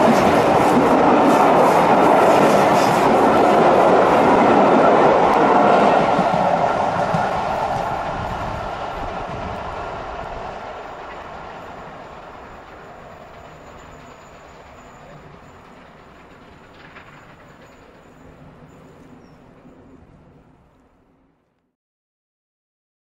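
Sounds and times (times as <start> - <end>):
train wheel and rail rumble: 0.0 - 21.6.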